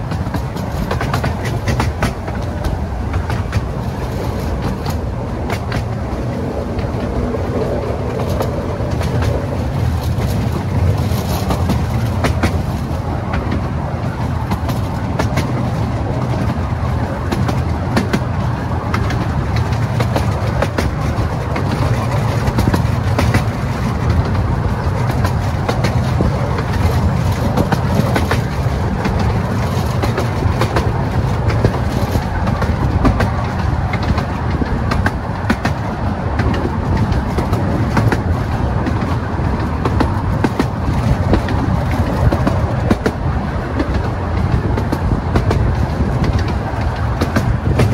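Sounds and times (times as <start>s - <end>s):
train wheels rumbling on rail: 0.0s - 47.9s
wheels clicking and clacking: 0.0s - 47.9s.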